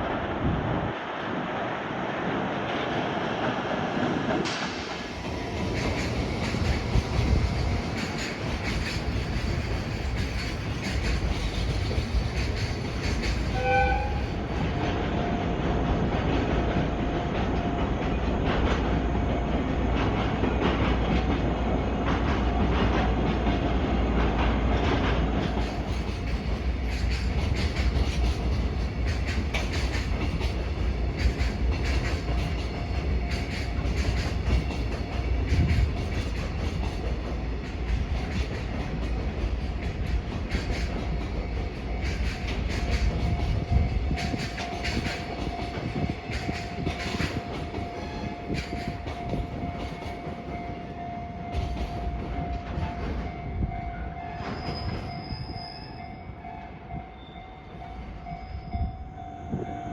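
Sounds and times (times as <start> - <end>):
train rumble: 0.0 - 59.9
train wheels clattering: 4.0 - 15.2, 15.8 - 56.2.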